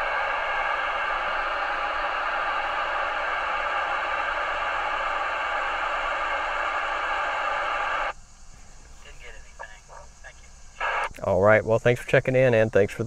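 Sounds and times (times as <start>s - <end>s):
radio static hiss: 0.0s - 11.7s.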